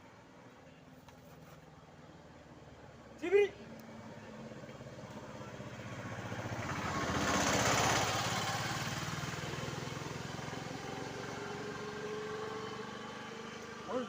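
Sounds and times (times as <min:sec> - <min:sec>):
motorbike passing by: 0:02.6 - 0:14.0.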